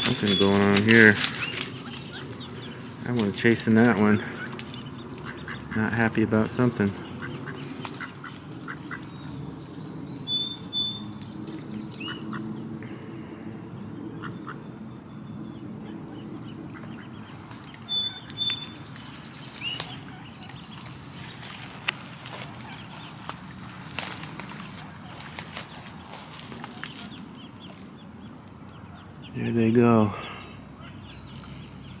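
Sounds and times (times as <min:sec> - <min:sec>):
ducks quacking: 0:00.0 - 0:09.4, 0:10.3 - 0:14.8, 0:15.8 - 0:32.0
high-pitched duckling calls: 0:00.0 - 0:09.4, 0:10.2 - 0:12.6, 0:14.1 - 0:14.8, 0:15.5 - 0:29.6.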